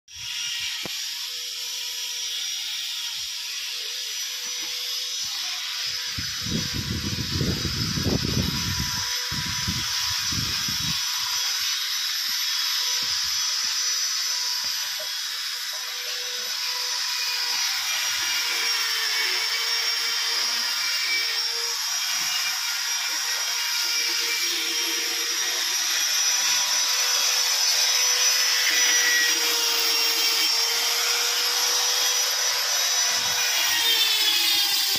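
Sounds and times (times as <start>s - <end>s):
power tools hissing and humming: 0.1s - 34.9s.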